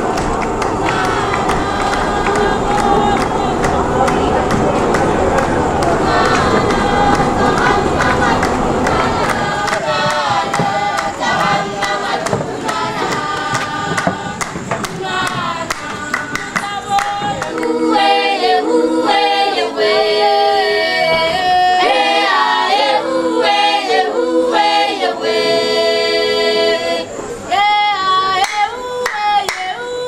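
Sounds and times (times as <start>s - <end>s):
choir singing held notes: 0.0s - 30.0s.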